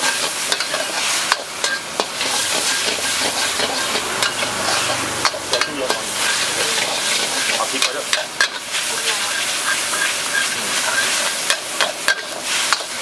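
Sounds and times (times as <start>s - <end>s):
food sizzling in a wok: 0.0s - 13.0s
metal spatula clanking on wok: 0.0s - 13.0s.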